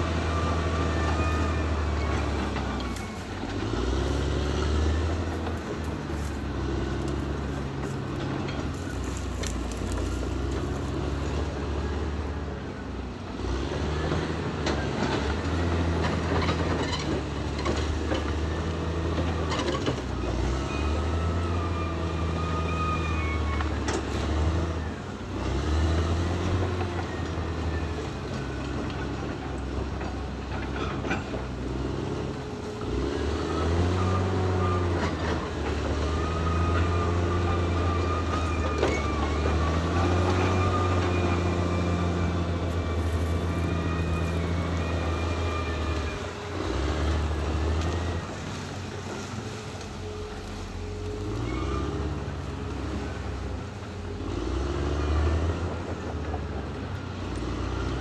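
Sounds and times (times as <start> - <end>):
bulldozer diesel engine: 0.0 - 58.0
steel tracks squealing and clanking: 0.0 - 58.0.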